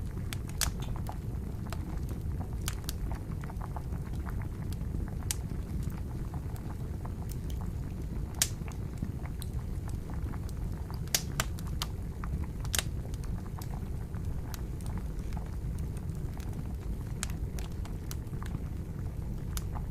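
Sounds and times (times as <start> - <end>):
campfire crackling and popping: 0.0 - 19.9
water boiling and bubbling: 0.0 - 19.9.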